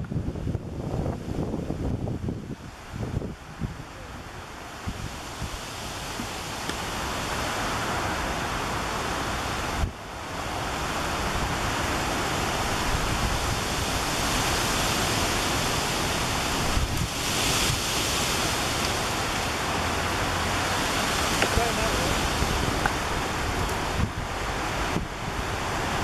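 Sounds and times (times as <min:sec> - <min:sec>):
strong gusty wind on microphone: 0:00.0 - 0:26.0.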